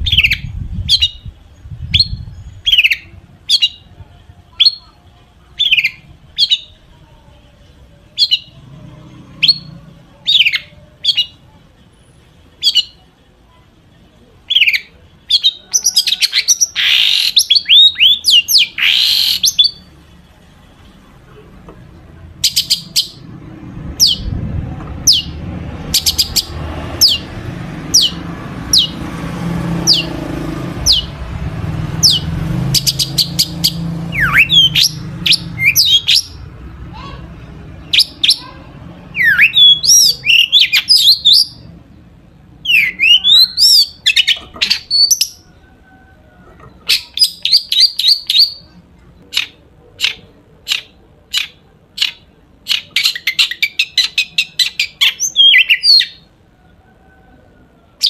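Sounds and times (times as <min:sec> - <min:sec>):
shrike singing: 0:00.0 - 0:13.2, 0:13.9 - 0:21.3, 0:21.9 - 0:37.2, 0:37.8 - 0:41.8, 0:42.6 - 0:56.4.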